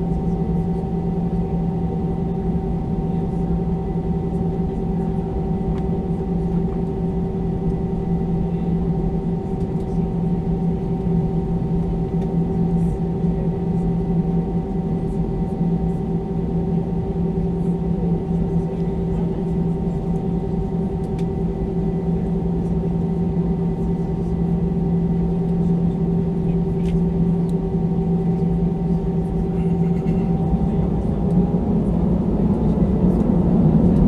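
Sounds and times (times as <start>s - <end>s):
airliner cabin engine drone: 0.0s - 34.0s.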